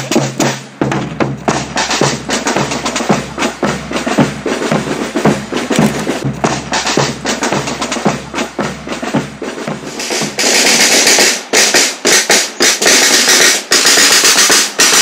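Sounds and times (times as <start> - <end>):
marching snare and bass drums: 0.0 - 15.0.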